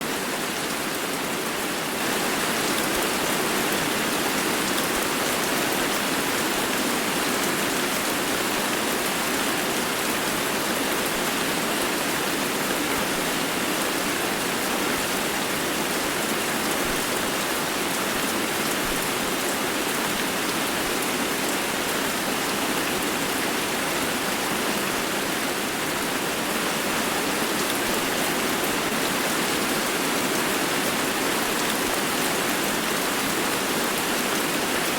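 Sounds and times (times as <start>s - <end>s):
rain on hard surfaces: 0.0s - 34.9s.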